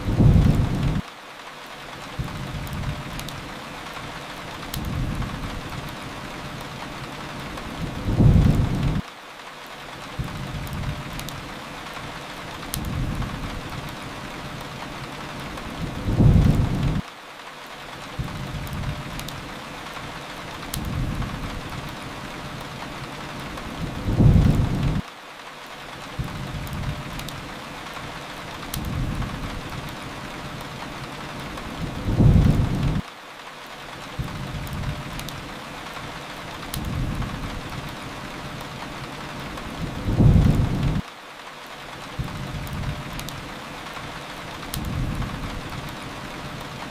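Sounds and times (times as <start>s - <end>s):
rain hiss: 0.0s - 46.9s.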